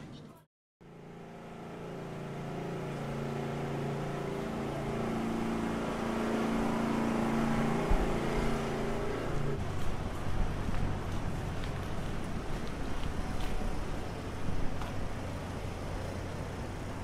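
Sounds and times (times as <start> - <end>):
street noise: 0.0 - 17.0
vehicle engine humming: 0.0 - 17.0.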